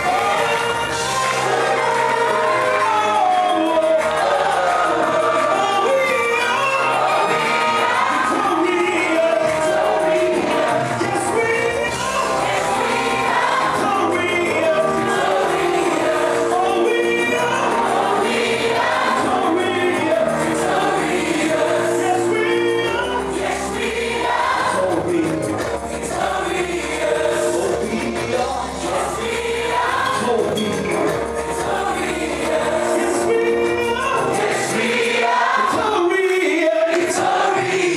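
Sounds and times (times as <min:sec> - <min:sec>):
band playing: 0:00.0 - 0:37.9
vocal ensemble singing gospel: 0:00.0 - 0:37.9.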